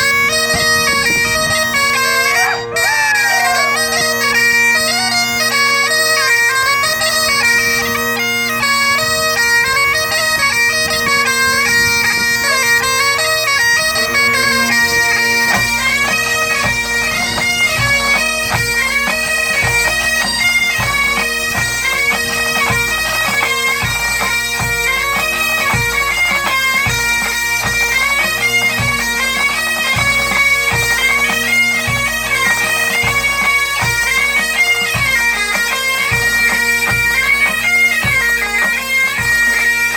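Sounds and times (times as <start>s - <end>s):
bagpipe drones: 0.0s - 39.9s
bagpipes melody: 0.0s - 39.9s.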